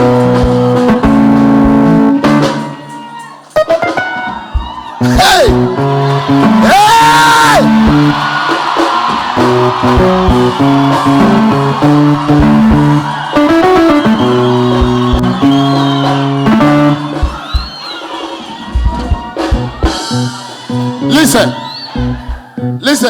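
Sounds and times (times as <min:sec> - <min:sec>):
guitar music with low notes: 0:00.0 - 0:02.9, 0:03.6 - 0:08.5, 0:09.3 - 0:17.7, 0:19.1 - 0:23.0.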